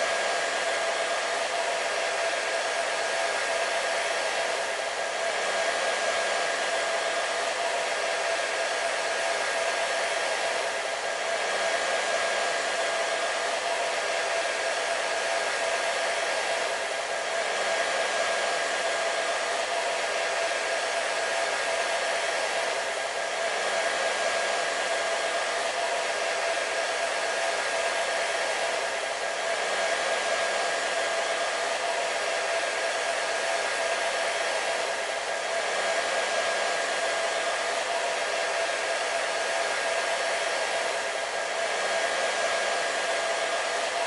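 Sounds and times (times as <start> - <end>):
hair dryer running: 0.0 - 44.0.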